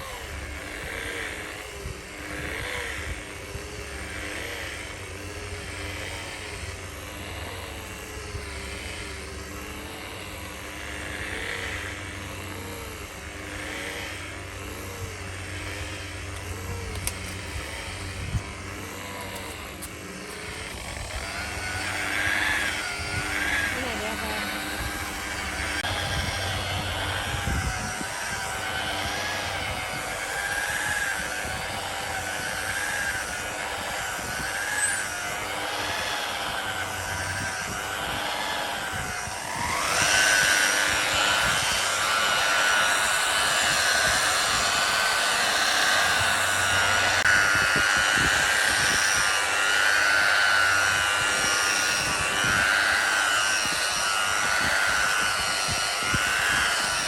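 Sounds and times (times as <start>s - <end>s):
electric power tool whining: 0.0s - 57.0s.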